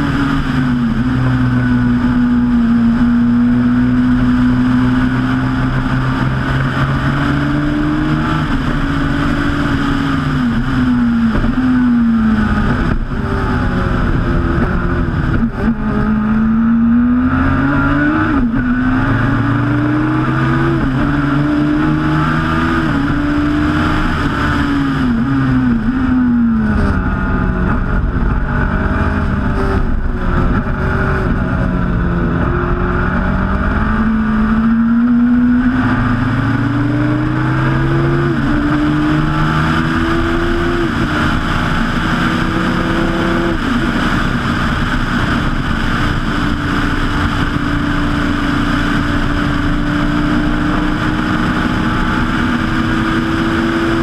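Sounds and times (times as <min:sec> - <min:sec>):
motorcycle engine revving with upshifts: 0:00.0 - 0:54.0
steady rushing noise: 0:00.0 - 0:54.0.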